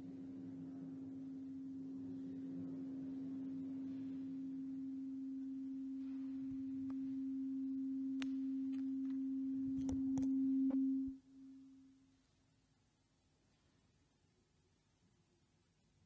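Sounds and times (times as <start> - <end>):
steady pure tone: 0.0 - 13.4.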